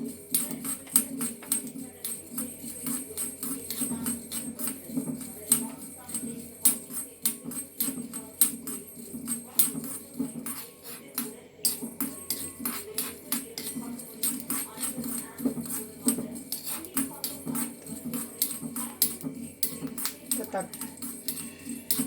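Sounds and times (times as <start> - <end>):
peppercorns rattling in a pan: 0.0 - 22.0.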